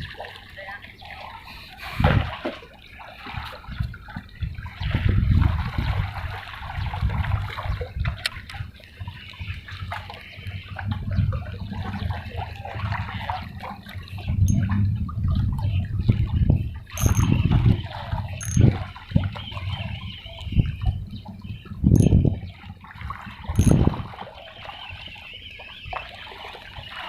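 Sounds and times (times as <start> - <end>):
water lapping and sloshing: 0.0 - 27.0.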